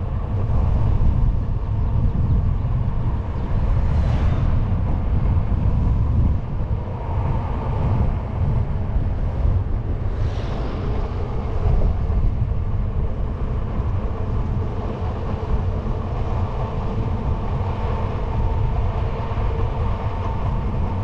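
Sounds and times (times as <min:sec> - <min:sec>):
bicycle tyre rolling on asphalt: 0:00.0 - 0:21.0
wind buffeting microphone: 0:00.0 - 0:21.0.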